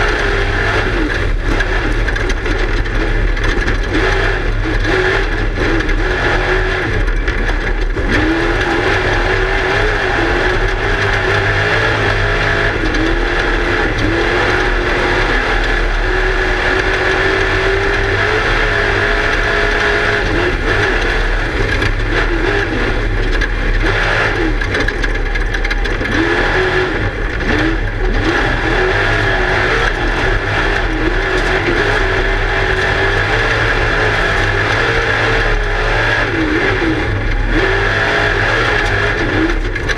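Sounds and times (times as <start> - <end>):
car and terrain noise: 0.0 - 39.9
race car engine running hard: 0.0 - 39.9.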